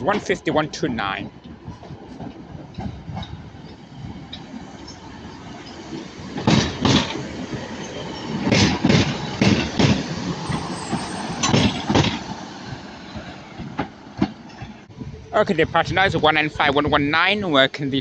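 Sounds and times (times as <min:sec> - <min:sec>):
train wheels clattering over joints: 0:00.0 - 0:14.9
low train rumble: 0:00.0 - 0:18.0.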